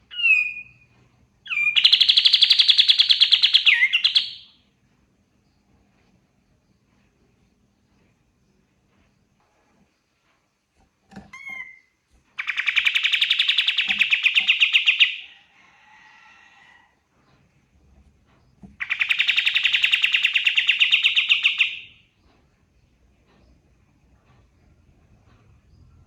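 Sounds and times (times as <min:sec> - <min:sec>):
songbird chirps: 0:00.0 - 0:16.0, 0:17.2 - 0:26.0.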